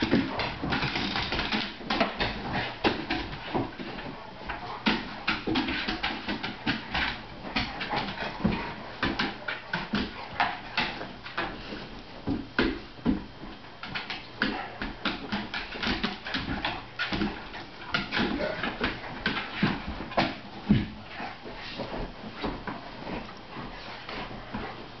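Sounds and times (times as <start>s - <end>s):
dog claws clicking on wooden floor: 0.0s - 20.8s.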